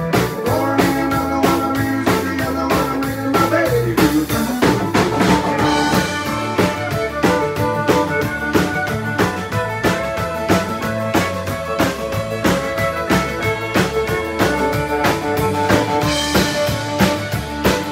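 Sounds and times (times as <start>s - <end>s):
country-rock band playing: 0.0s - 17.9s
drums steady beat: 0.0s - 17.9s.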